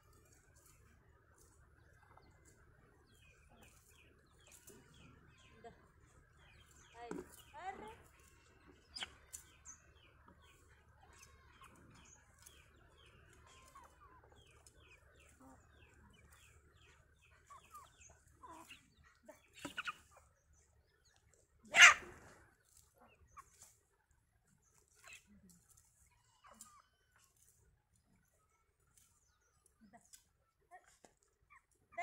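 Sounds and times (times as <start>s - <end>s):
chickens clucking: 0.0s - 32.0s
chicks peeping: 0.1s - 30.4s.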